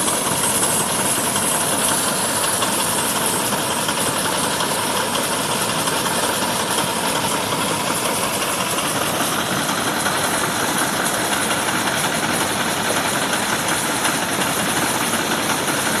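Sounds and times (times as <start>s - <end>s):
car engine running steadily: 0.0s - 16.0s.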